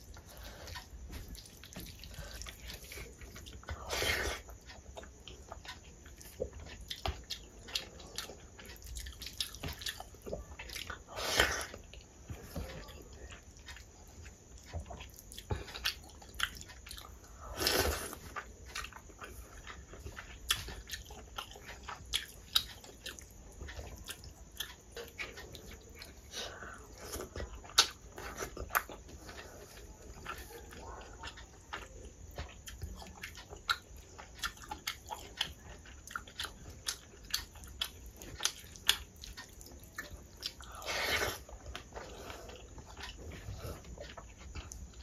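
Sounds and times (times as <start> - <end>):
wet chewing with lip smacks: 0.0 - 45.0.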